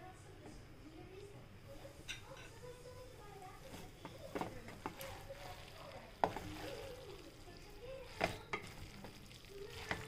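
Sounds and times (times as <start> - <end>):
faint sizzle: 0.0 - 10.0
spatula stirring noodles in pan: 1.8 - 10.0.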